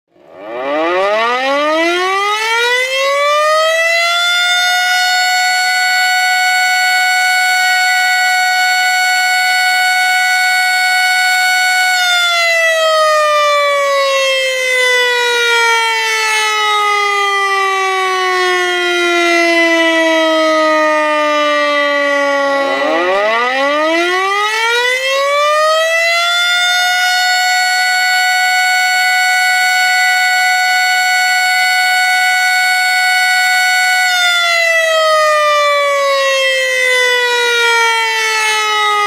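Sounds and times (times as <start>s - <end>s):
siren wailing: 0.1s - 39.0s.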